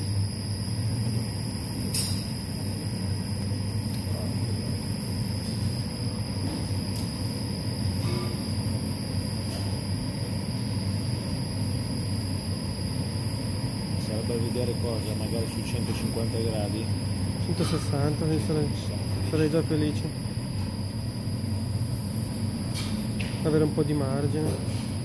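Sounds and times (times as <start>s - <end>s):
induction heater hum and whine: 0.0s - 25.0s.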